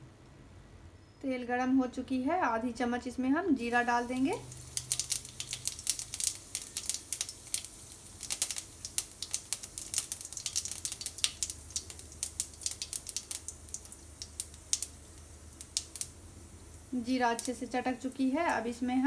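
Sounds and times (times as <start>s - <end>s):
seeds popping in hot oil: 3.6s - 19.0s.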